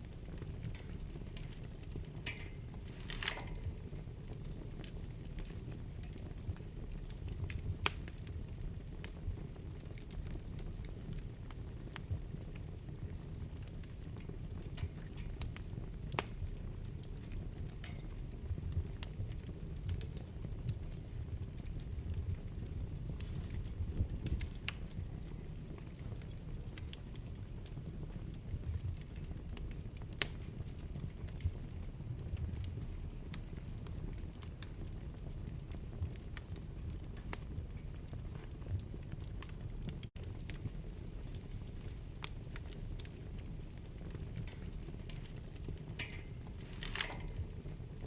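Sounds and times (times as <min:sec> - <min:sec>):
fire crackling and popping: 0:00.0 - 0:48.0
fire rumbling: 0:00.0 - 0:48.0.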